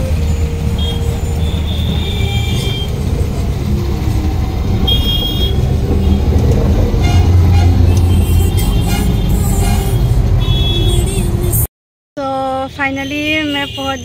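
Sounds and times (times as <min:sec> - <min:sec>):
engine rumble with road noise: 0:00.0 - 0:11.7.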